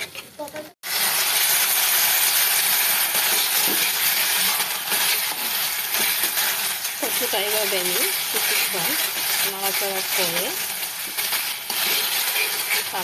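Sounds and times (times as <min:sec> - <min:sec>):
food sizzling in hot oil: 0:00.8 - 0:13.0.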